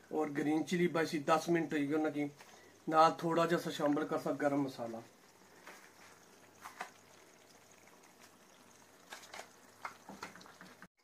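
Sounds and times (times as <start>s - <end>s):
curry simmering in a pan: 0.0s - 10.9s.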